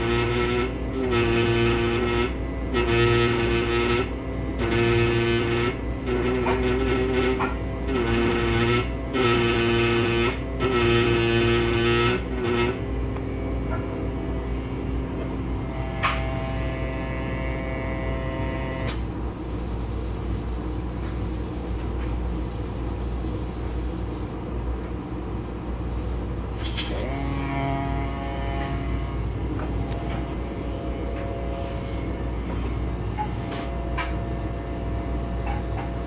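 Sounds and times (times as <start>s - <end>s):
low rumble of workshop machinery: 0.0s - 36.0s.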